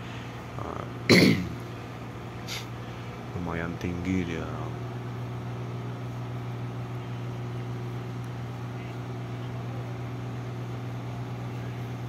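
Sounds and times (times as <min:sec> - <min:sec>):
lift engine low hum: 0:00.0 - 0:12.0.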